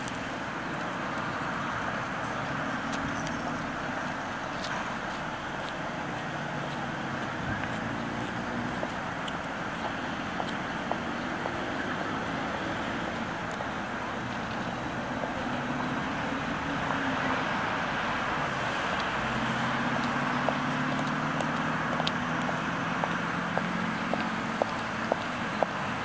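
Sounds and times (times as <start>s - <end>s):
road noise: 0.0s - 26.0s
vehicle engine humming: 0.0s - 26.0s.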